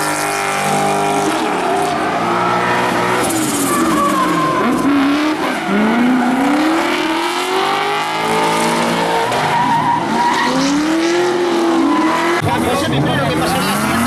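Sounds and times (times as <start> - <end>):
car engines revving: 0.0 - 14.0
tyres screeching: 0.7 - 12.4.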